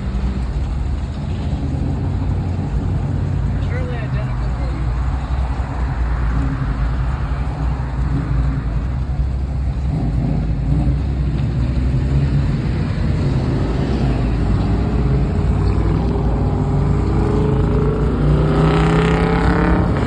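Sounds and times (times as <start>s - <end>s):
car engine and exhaust rumble: 0.0s - 20.0s.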